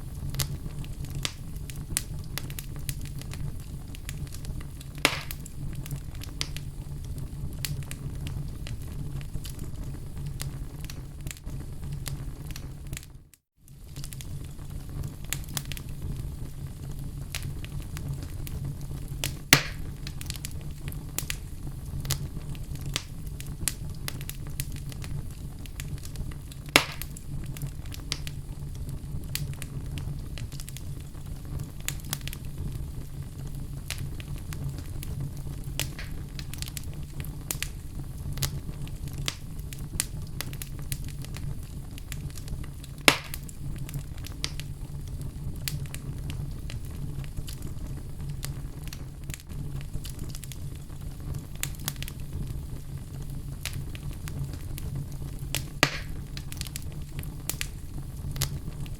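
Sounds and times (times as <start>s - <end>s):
fire crackling: 0.0s - 58.9s.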